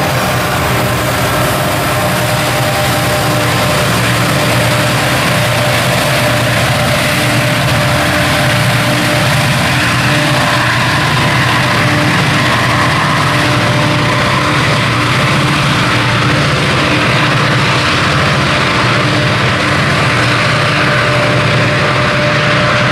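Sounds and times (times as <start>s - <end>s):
locomotive engine drone: 0.0s - 22.9s.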